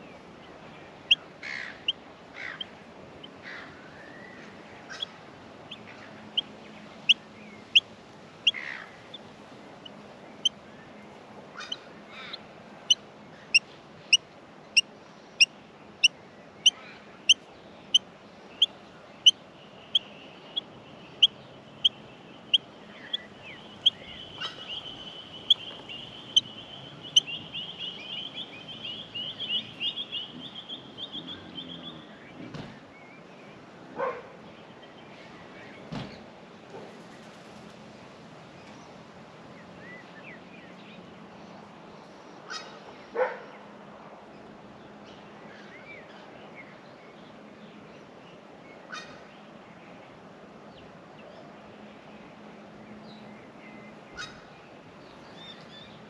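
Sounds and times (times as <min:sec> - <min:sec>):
continuous high twittering: 0:00.0 - 0:56.0.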